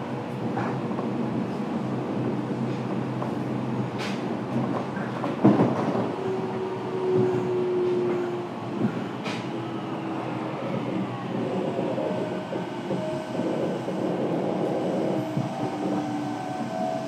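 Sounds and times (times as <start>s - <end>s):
train wheel and rail noise: 0.0s - 17.0s.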